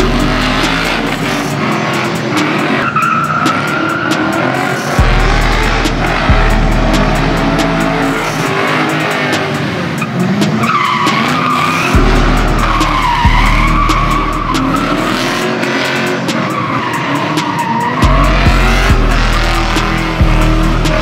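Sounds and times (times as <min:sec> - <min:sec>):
car engine at high revs: 0:00.0 - 0:21.0
tyres squealing: 0:00.0 - 0:21.0.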